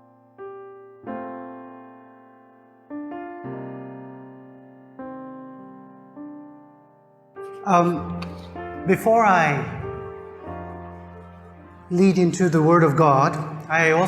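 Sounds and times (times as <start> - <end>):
slow keyboard piano chords: 0.0 - 14.0.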